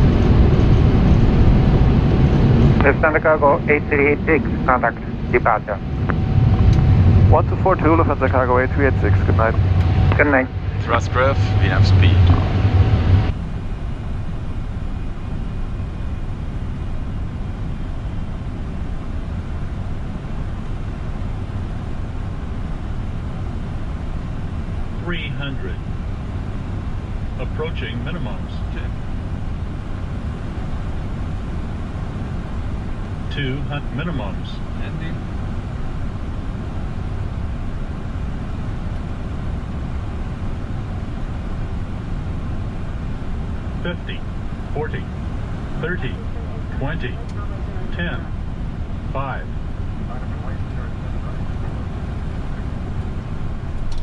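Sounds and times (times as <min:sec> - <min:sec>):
cockpit rumble and airflow: 0:00.0 - 0:54.0
faint steady tones: 0:00.0 - 0:54.0
jet engines at approach power: 0:00.0 - 0:54.0.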